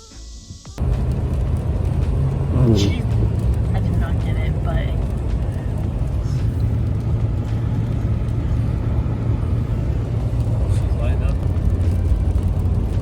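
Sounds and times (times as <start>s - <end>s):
constant low hum: 0.8s - 13.0s
motor vehicle engine drone: 0.8s - 13.0s
road noise: 0.8s - 13.0s.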